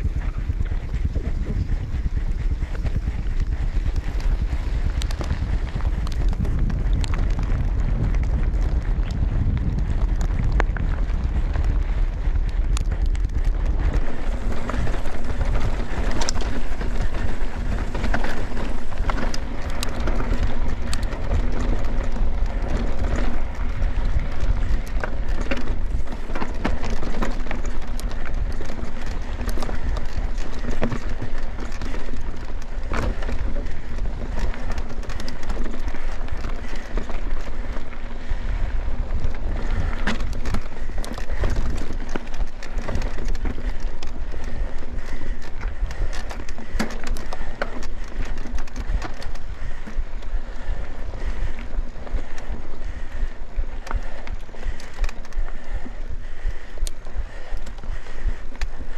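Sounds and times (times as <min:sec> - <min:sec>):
bike rattling over bumps: 0:00.0 - 0:58.9
tyres rumbling on dirt: 0:00.0 - 0:58.9.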